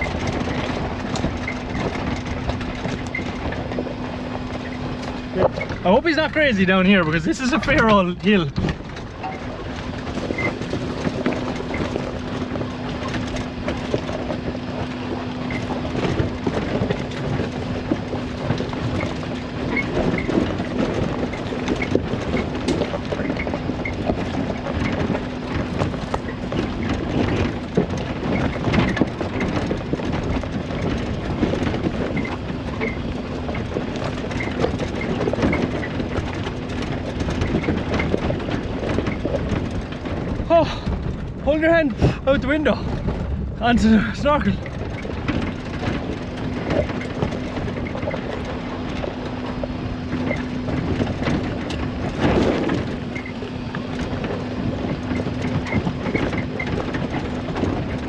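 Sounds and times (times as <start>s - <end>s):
vehicle engine droning: 0.0s - 58.0s
vehicle rattling and knocking: 0.0s - 58.0s.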